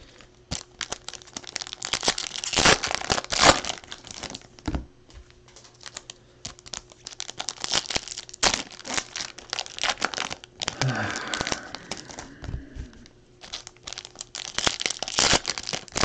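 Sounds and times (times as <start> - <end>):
wrapper crinkling: 0.2 - 4.7, 5.6 - 12.4, 13.0 - 16.0
wrapper ripping: 0.5 - 4.5, 5.7 - 12.4, 13.4 - 16.0.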